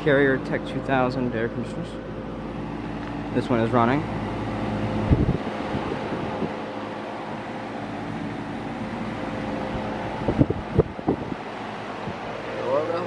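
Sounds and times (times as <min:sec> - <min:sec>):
compressor hum: 0:00.0 - 0:13.0
condenser fan blowing air: 0:00.0 - 0:13.0.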